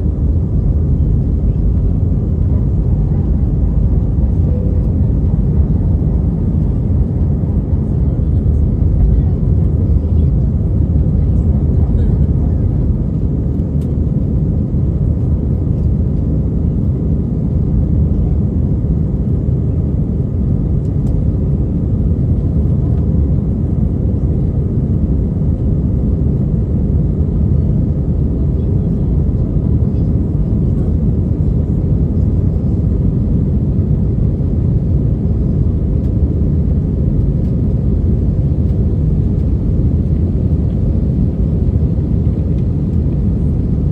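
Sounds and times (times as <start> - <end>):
jet engines rumbling in cabin: 0.0 - 43.9.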